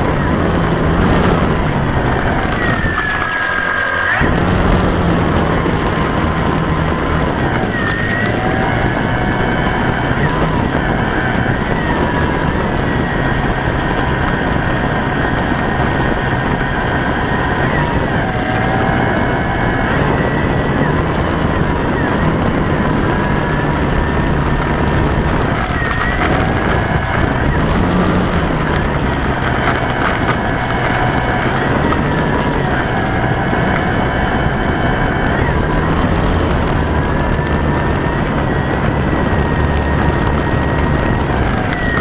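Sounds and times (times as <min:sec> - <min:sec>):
electric motor and propeller whining: 0:00.0 - 0:42.0
wind noise on microphone: 0:00.0 - 0:42.0.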